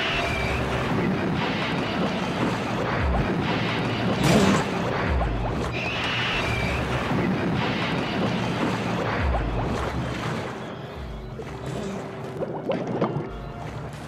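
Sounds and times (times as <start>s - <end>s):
water churning and splashing: 0.0s - 14.0s.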